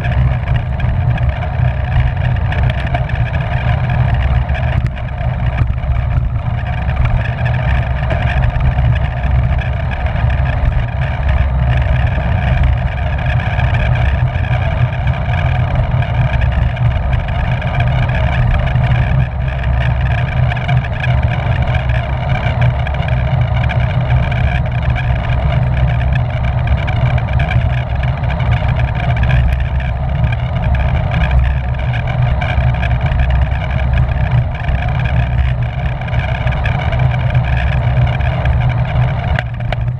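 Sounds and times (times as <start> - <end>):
bicycle tyres and drivetrain whirring: 0.0 - 39.9
wind rumble on microphone: 0.0 - 39.9.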